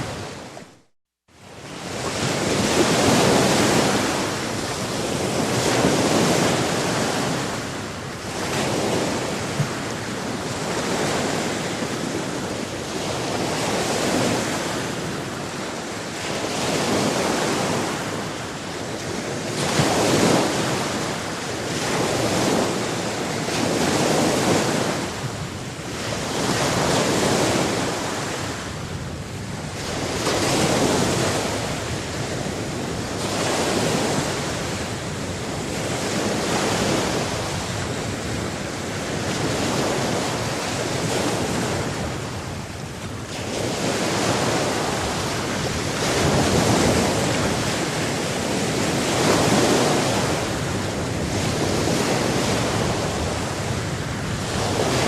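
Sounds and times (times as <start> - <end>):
sea waves breaking on shore: 0.0 - 55.0
wind: 0.0 - 55.0.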